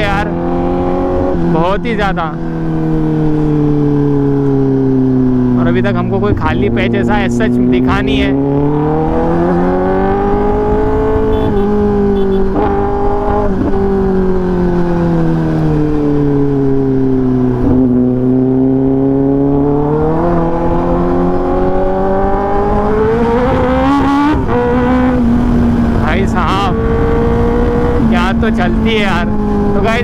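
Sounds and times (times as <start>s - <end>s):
motorcycle engine running loud: 0.0s - 30.0s.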